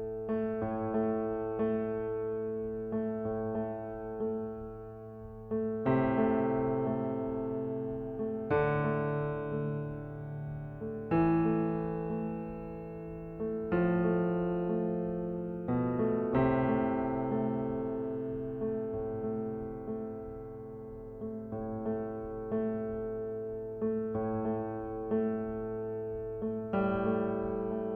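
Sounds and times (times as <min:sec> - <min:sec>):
slow piano chords: 0:00.0 - 0:27.9.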